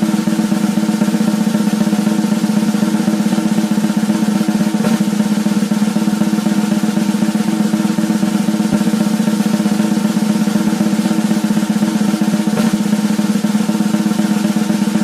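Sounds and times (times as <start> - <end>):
drum roll: 0.0 - 15.0.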